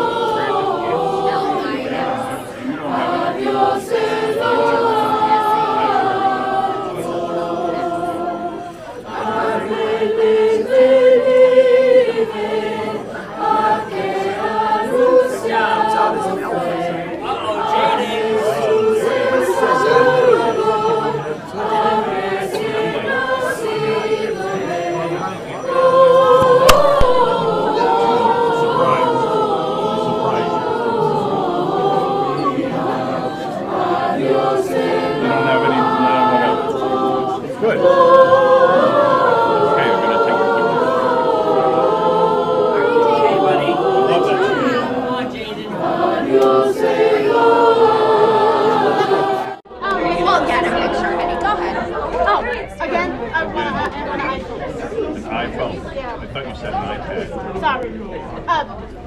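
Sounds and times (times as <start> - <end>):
choir singing: 0.0 - 55.7.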